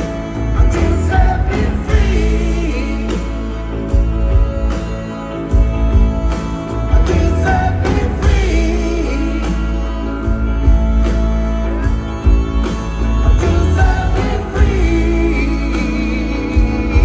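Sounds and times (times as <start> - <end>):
live band playing soul-rock: 0.0 - 17.0
person singing: 0.0 - 17.0.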